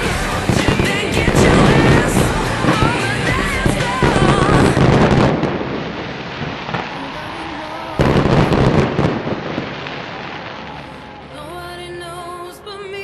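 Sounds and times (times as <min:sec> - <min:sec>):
fireworks bursting and crackling: 0:00.0 - 0:11.8.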